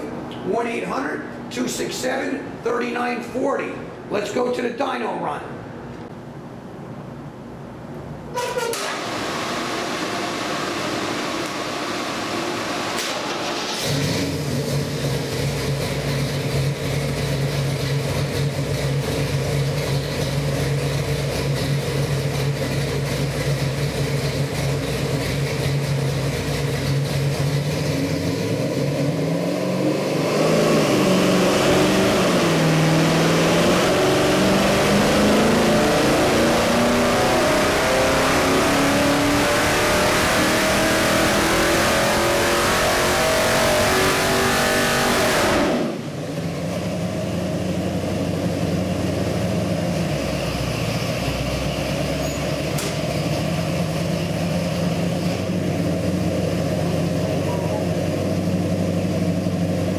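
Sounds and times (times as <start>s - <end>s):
engine on dyno idling and revving: 8.7s - 59.9s.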